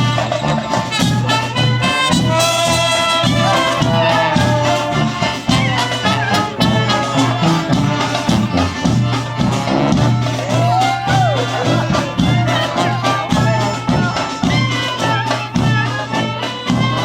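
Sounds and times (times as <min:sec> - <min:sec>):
pulsing bass line: 0:00.0 - 0:14.5
brass horns melody: 0:00.0 - 0:17.0.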